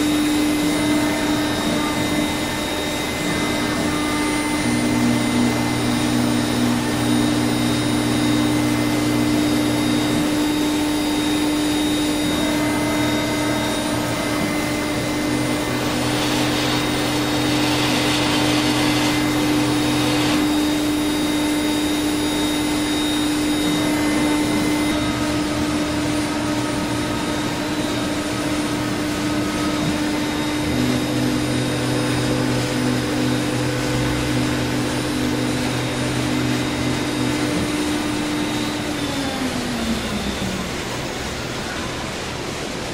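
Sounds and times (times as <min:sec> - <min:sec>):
cnc router humming: 0:00.0 - 0:42.9.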